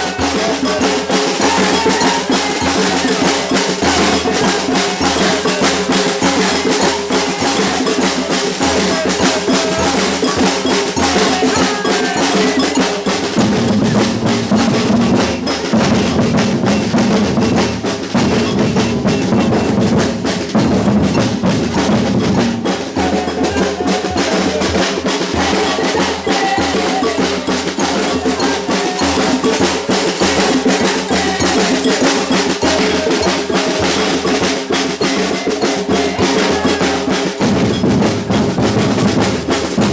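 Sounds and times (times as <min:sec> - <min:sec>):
bass drums: 0:00.0 - 0:39.9
cowbell: 0:00.0 - 0:39.9
samba percussion group: 0:00.0 - 0:39.9.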